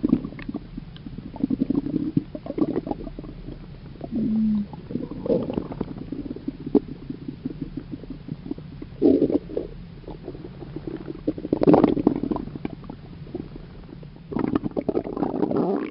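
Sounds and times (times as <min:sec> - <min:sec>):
stomach rumbling gurgles: 0:00.0 - 0:15.9.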